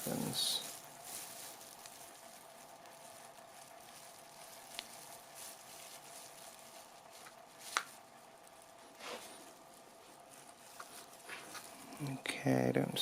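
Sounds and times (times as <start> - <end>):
faint steady hiss: 0.0 - 13.0
faint steady hum: 0.0 - 13.0.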